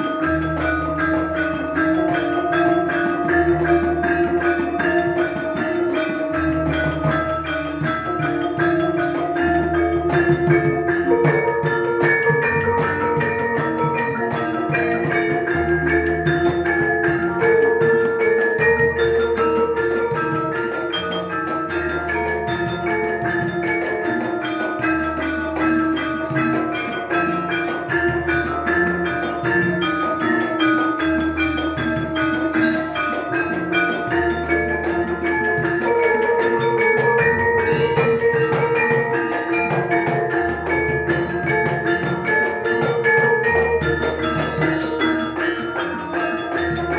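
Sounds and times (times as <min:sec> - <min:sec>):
gamelan ensemble playing: 0:00.0 - 0:46.9.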